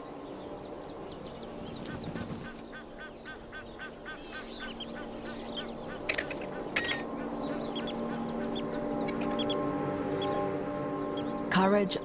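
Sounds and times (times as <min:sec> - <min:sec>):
bird chirping rapidly: 0:01.3 - 0:11.6.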